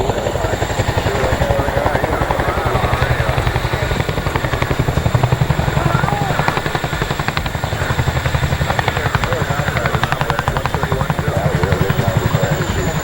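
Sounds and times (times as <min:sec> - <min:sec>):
helicopter rotors beating: 0:00.0 - 0:13.0.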